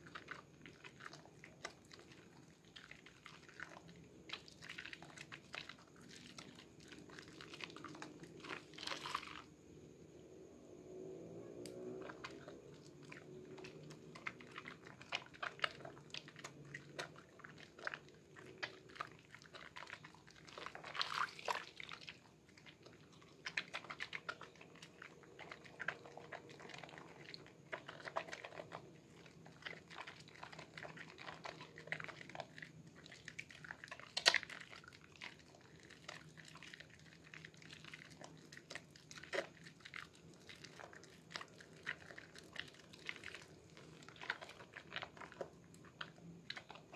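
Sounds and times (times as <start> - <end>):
wet soapy hands squelching: 0.0 - 9.5, 11.6 - 46.9.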